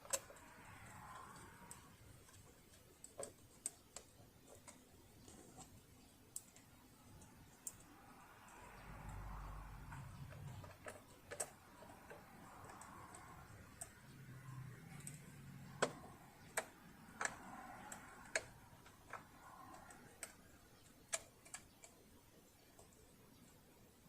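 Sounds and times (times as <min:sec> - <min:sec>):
metal parts clicking and tapping: 0:00.0 - 0:23.6
faint low hum: 0:00.0 - 0:24.0.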